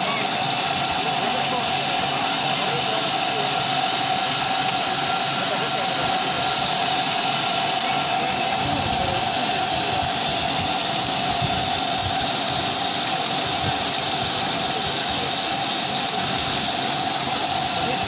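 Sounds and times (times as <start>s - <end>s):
constant tone: 0.0s - 18.0s
electric fans whirring: 0.0s - 18.0s.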